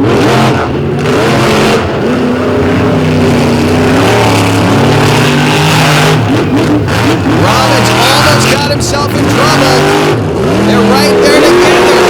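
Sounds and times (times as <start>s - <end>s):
monster truck engines racing: 0.0s - 12.0s.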